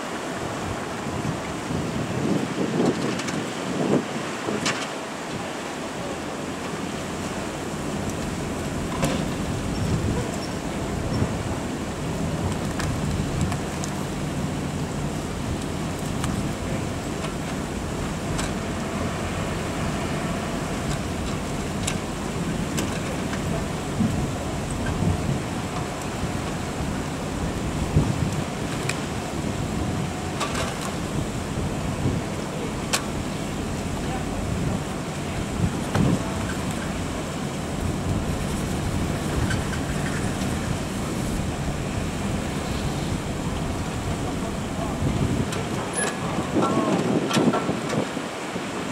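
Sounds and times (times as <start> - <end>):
engines rumbling: 0.0 - 48.9.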